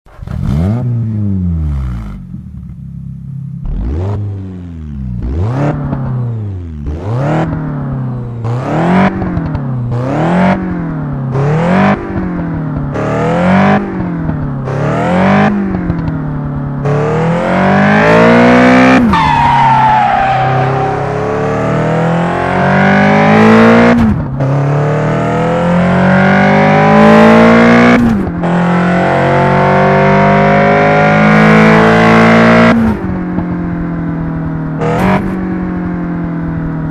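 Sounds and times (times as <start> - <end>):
car engine revving: 0.1 - 36.9
road noise: 0.1 - 36.9.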